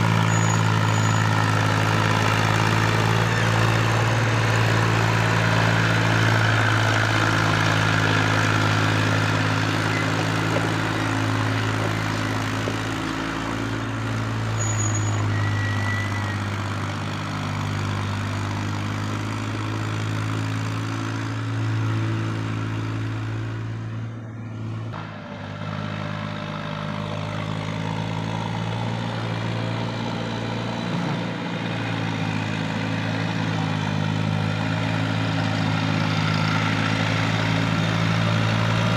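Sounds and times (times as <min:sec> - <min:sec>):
heavy diesel engine droning: 0:00.0 - 0:38.9.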